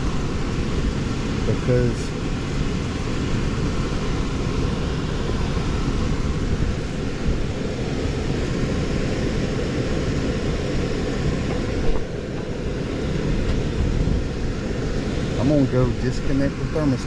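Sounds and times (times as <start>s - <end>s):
air handler blower rumbling: 0.0s - 17.0s.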